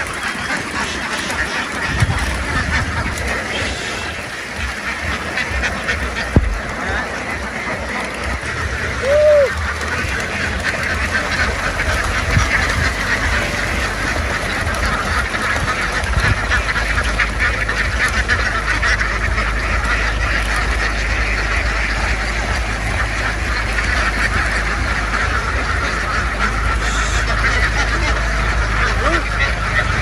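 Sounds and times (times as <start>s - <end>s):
flock of ducks quacking: 0.0s - 30.0s
loud duck call: 0.0s - 30.0s
steady low hum: 0.0s - 30.0s.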